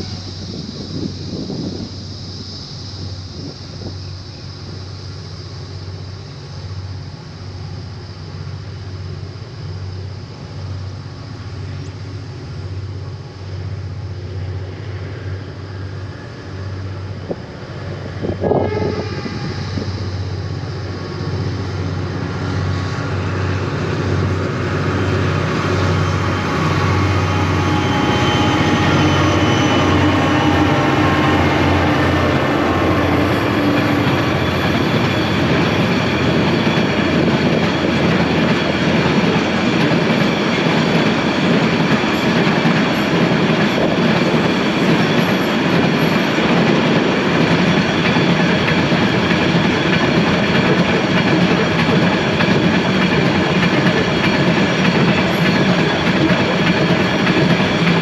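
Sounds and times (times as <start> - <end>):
diesel locomotive engines passing: 0.0 - 58.0.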